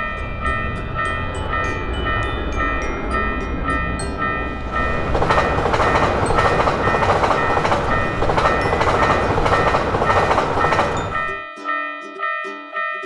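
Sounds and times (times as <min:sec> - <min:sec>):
train passing at speed: 0:00.0 - 0:11.4
wheels clattering on rail joints: 0:00.0 - 0:11.4.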